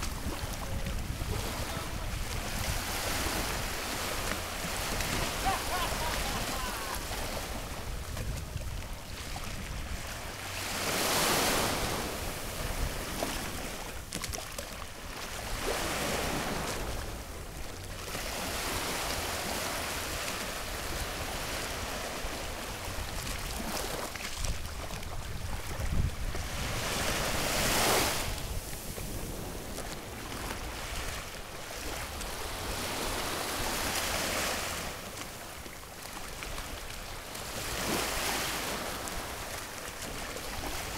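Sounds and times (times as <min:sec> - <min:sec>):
small waves breaking on beach: 0:00.0 - 0:40.9
wind rumble on microphone: 0:00.0 - 0:40.9.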